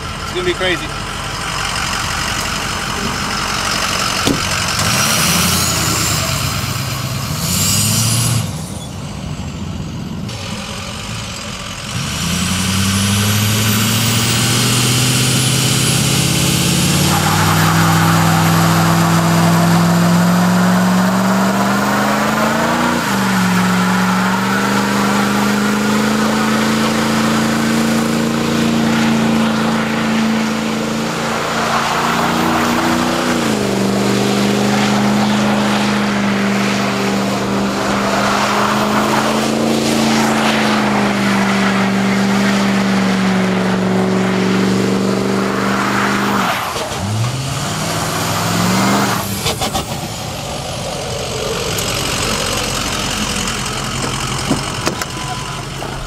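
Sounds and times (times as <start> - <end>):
truck engine revving high: 0.0 - 56.0.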